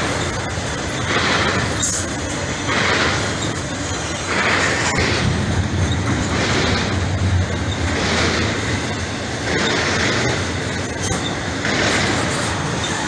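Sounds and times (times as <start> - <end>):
hissing of passing train trucks: 0.0 - 13.0
train wheels rumbling on rail: 0.0 - 13.0.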